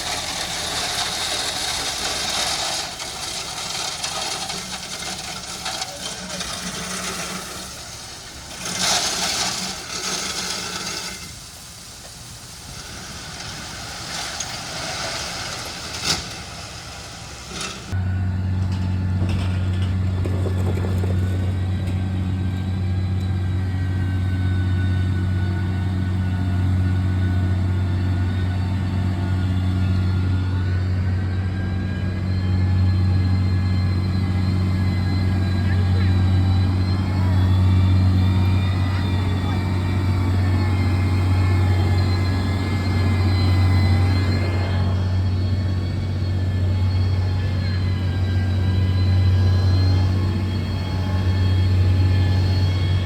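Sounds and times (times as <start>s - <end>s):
heavy diesel machinery running: 0.0s - 53.0s
low engine drone: 0.0s - 53.0s.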